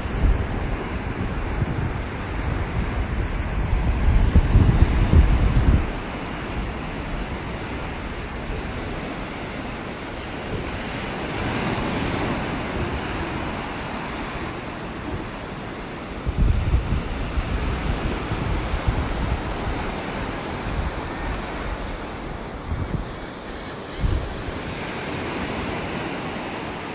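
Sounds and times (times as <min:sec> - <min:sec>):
wind buffeting microphone: 0:00.0 - 0:26.8
ocean surf washing onto beach: 0:00.0 - 0:26.9.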